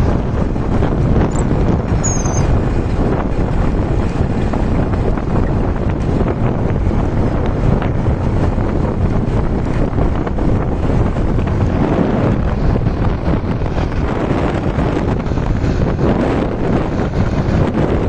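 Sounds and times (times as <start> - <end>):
motorbike engine running: 0.0 - 18.0
wind buffeting microphone: 0.0 - 18.0.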